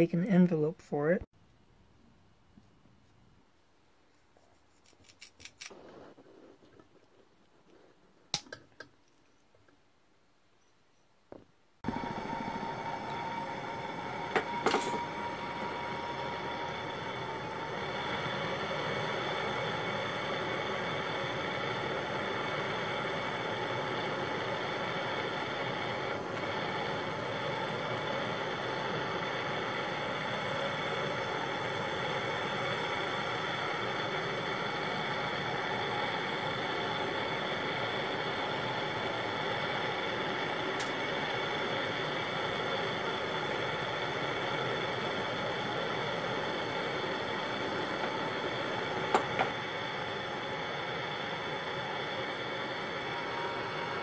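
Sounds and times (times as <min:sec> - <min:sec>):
gas torch flame hissing: 0:05.5 - 0:08.9, 0:11.8 - 0:54.0.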